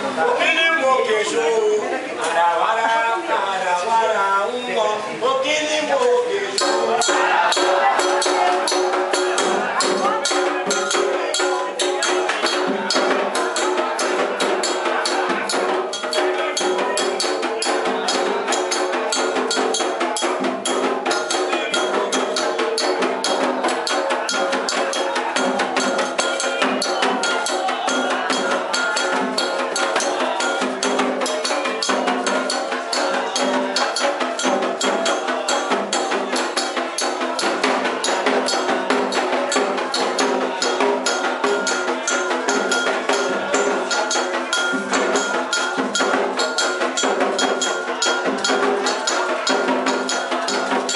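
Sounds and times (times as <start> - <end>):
drums playing fast rhythm: 0.0 - 50.9
struck bell or block: 6.6 - 50.9.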